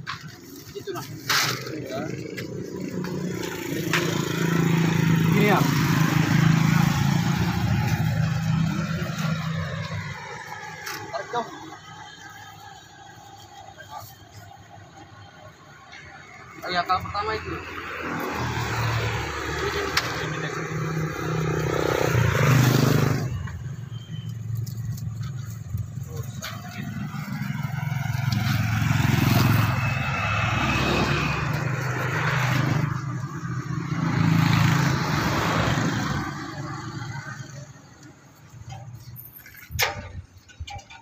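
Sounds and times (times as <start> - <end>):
motorcycles and cars passing: 0.0 - 40.4.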